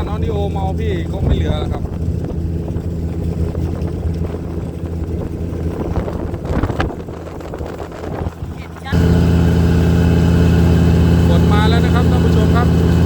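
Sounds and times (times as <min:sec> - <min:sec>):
wind on microphone: 0:00.0 - 0:11.2
boat engine humming: 0:00.0 - 0:13.0.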